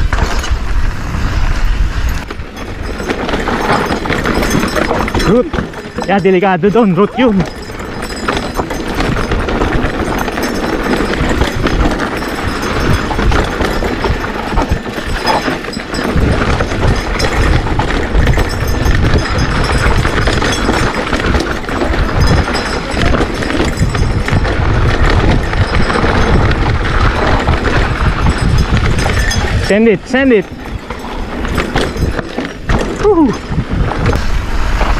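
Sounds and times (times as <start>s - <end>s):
bike rattling over bumps: 0.0s - 34.9s
bike tyres on dirt: 0.0s - 34.9s
wind buffeting microphone: 0.0s - 34.9s.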